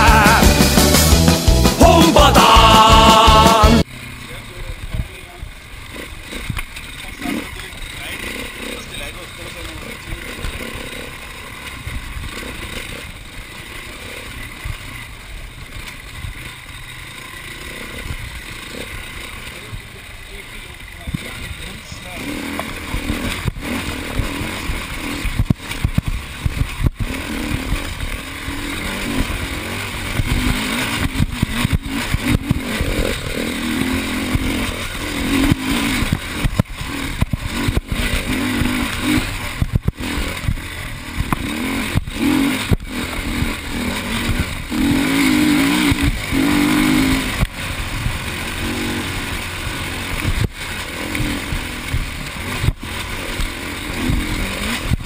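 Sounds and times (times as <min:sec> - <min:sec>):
constant rushing noise: 0:00.0 - 0:55.0
dirt bike engine revving: 0:00.0 - 0:55.0.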